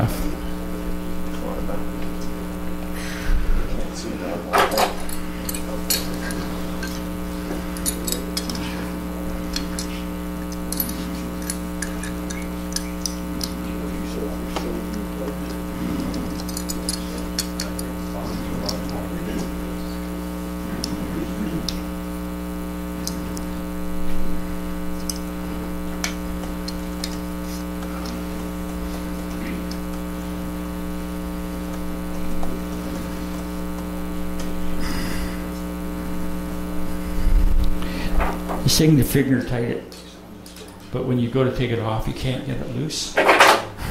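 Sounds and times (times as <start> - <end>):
electrical mains hum: 0.0 - 43.9.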